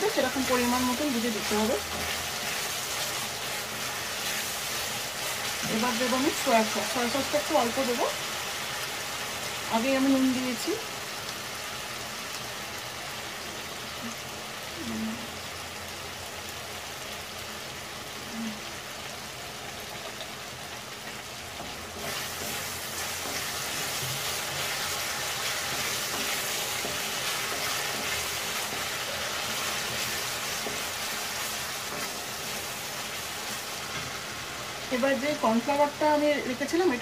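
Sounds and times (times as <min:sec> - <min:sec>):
prawns sizzling in a pan: 0:00.0 - 0:37.0.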